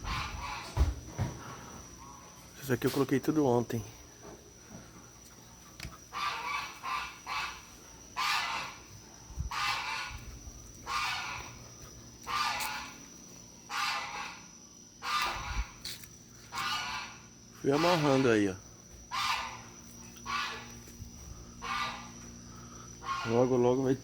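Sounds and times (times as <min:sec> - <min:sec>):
farm fowl calling: 0:00.0 - 0:03.0, 0:05.1 - 0:24.0.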